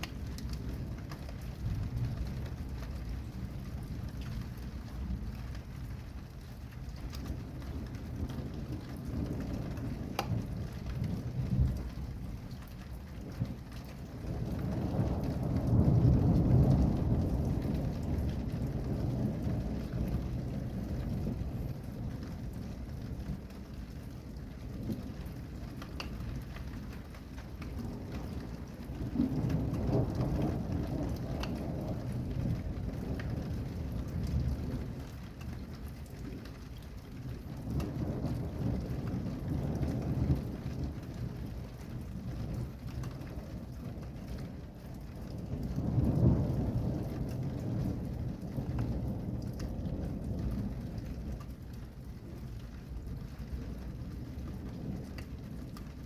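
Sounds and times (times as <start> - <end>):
steady rain: 0.0 - 56.0
thunder rolling: 7.3 - 56.0.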